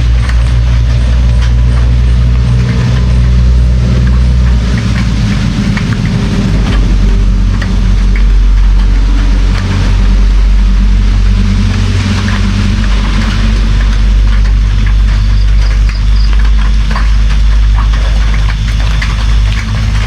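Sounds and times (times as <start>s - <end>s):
continuous low hum: 0.0s - 20.0s
rain drops ticking on surface: 0.0s - 20.0s.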